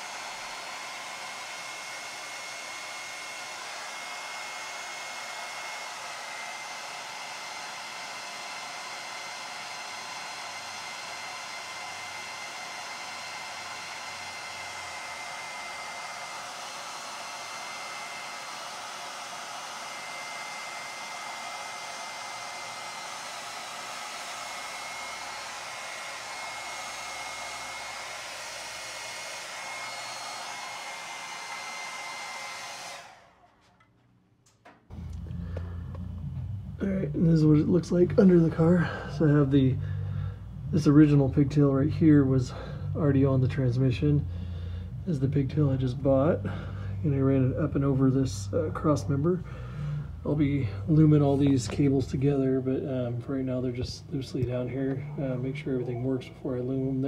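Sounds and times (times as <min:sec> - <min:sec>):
hair dryer blowing: 0:00.0 - 0:33.8, 0:34.6 - 0:57.0.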